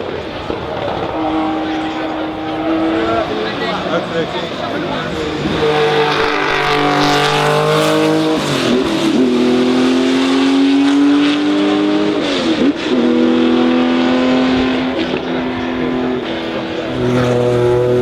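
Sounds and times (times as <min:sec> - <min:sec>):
racing car accelerating hard: 0:00.0 - 0:18.0.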